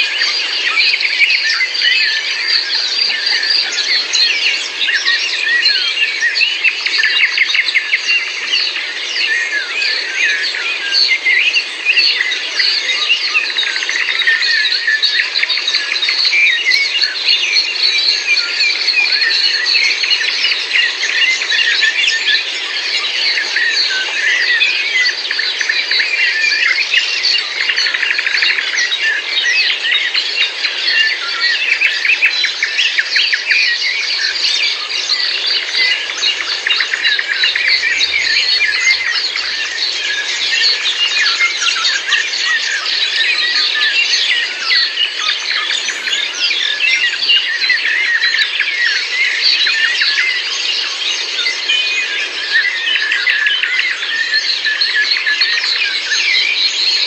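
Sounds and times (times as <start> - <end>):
songbirds chorus: 0.0 - 57.0.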